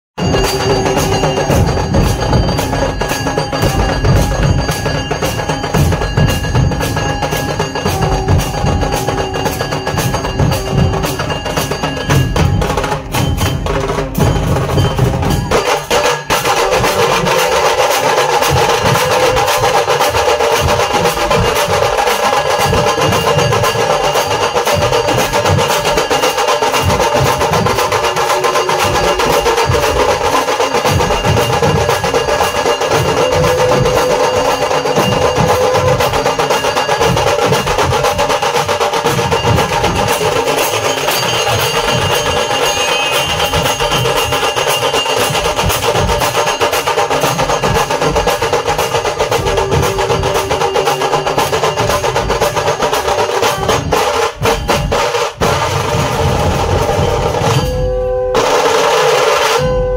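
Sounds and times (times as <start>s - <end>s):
barrel drums playing fast rhythm: 0.2s - 59.9s
higher ringing drum strokes: 0.2s - 59.9s.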